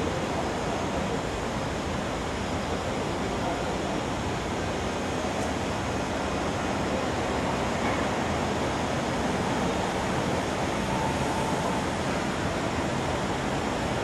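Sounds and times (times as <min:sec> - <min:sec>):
train air conditioning rushing: 0:00.0 - 0:14.0.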